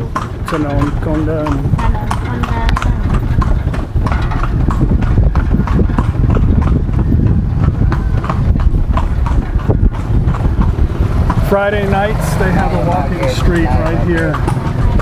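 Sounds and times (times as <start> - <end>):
horse hooves clip-clopping on pavement: 0.0 - 15.0
low rumble of carriage: 0.0 - 15.0.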